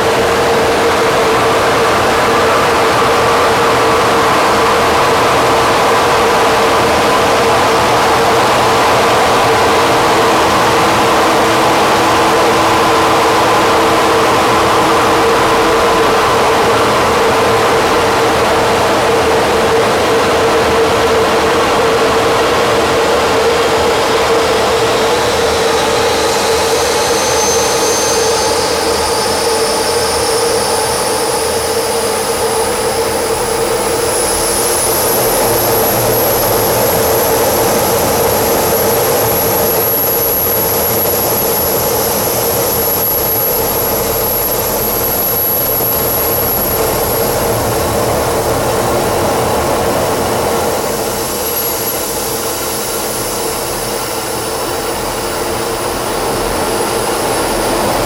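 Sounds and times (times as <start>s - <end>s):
jet engine running: 0.0s - 58.0s.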